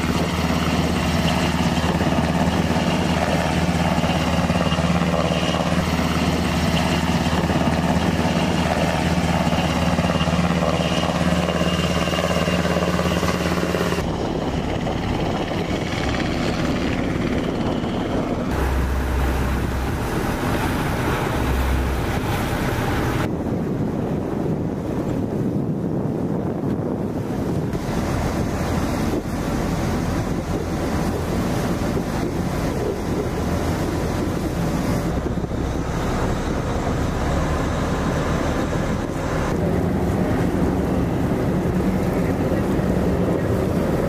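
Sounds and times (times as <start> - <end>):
helicopter hovering: 0.0 - 44.0
outboard motor running: 0.0 - 44.0
water: 0.0 - 44.0
wind: 0.0 - 44.0.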